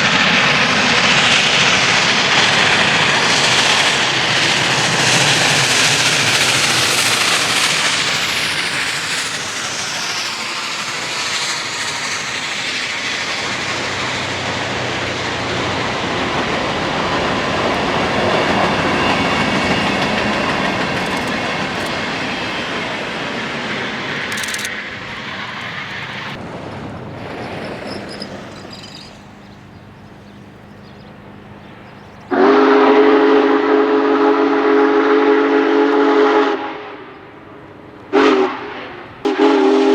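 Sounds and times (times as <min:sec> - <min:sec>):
train rushing rail noise: 0:00.0 - 0:39.9.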